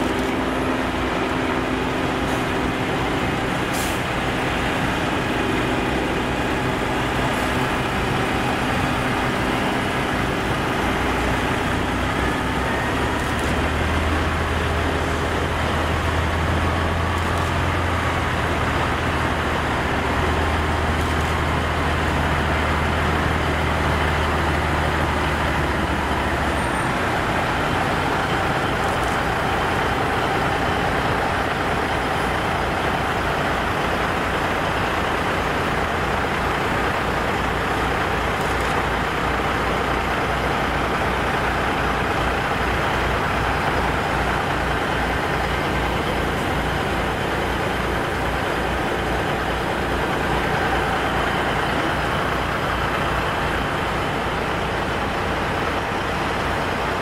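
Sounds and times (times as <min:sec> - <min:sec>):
diesel truck engines rumbling: 0:00.0 - 0:57.0.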